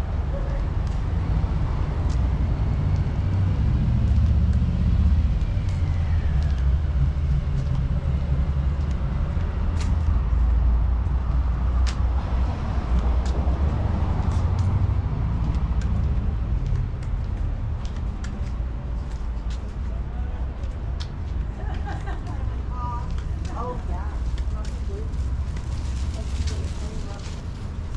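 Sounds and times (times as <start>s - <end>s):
traffic rumble: 0.0s - 27.9s
vehicle passing: 0.0s - 27.9s
footsteps clicking: 0.5s - 27.9s.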